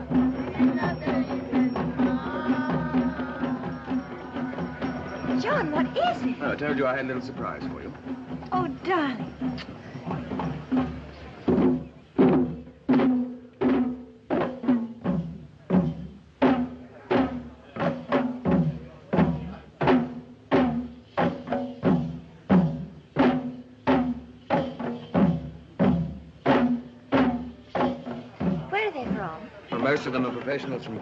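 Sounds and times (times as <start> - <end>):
drums beaten in driving rhythm: 0.0 - 31.0.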